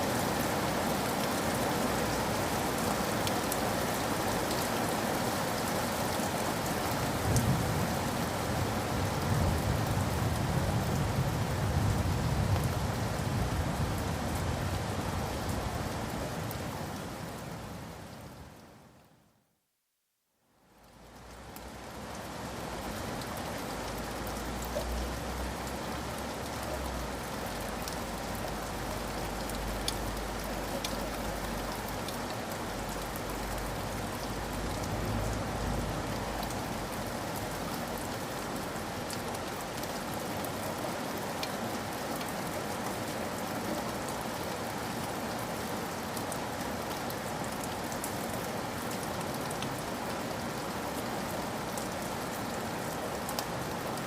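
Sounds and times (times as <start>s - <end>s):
rain falling: 0.0s - 19.3s, 20.5s - 54.0s.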